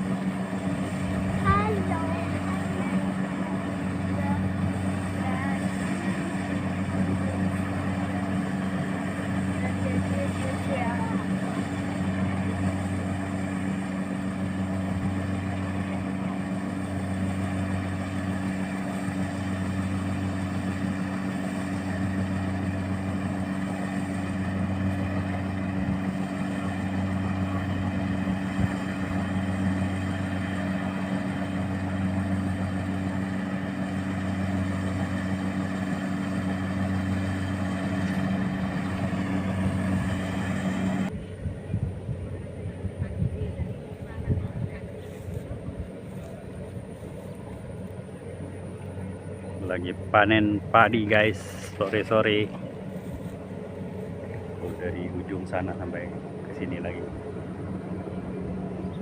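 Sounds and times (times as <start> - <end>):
harvester engine running: 0.0 - 59.0.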